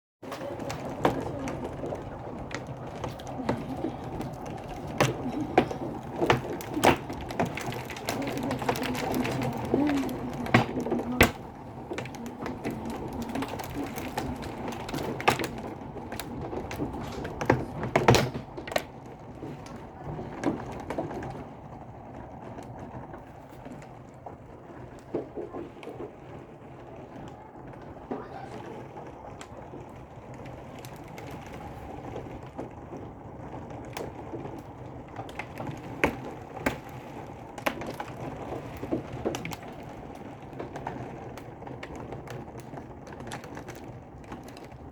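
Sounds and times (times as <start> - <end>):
heavy rain downpour: 0.2 - 44.9
rain tapping on surfaces: 0.2 - 44.9.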